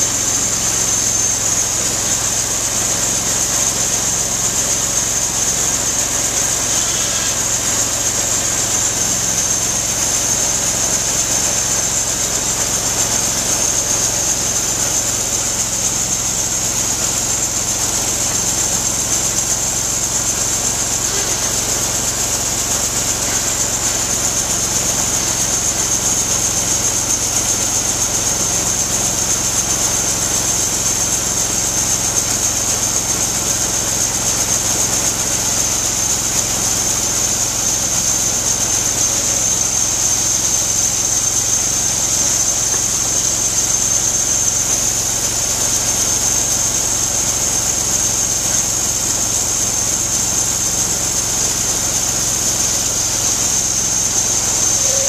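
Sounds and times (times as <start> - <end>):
bandsaw sawmill engine hum: 0.0 - 55.0
steady high whine: 0.0 - 55.0.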